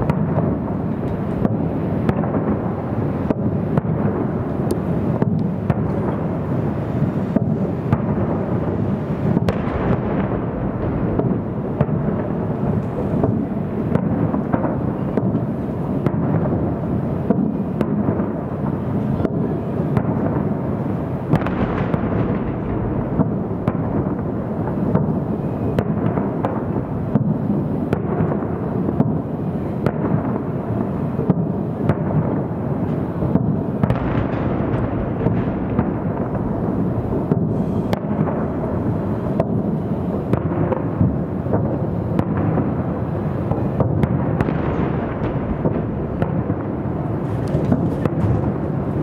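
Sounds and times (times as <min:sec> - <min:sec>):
distant fireworks booming: 0:00.0 - 0:49.0.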